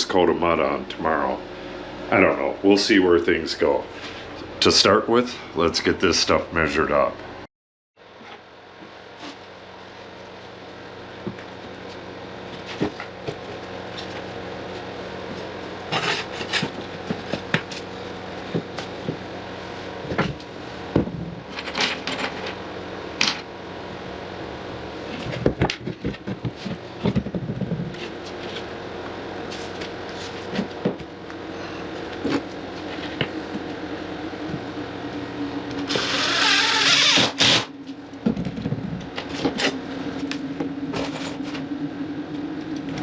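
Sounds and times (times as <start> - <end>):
steady fan hum: 0.0 - 43.0.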